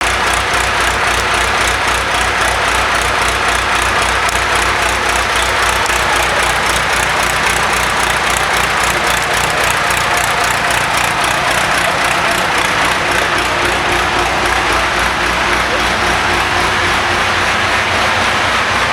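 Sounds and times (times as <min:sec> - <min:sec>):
wood chipper engine running: 0:00.0 - 0:18.9.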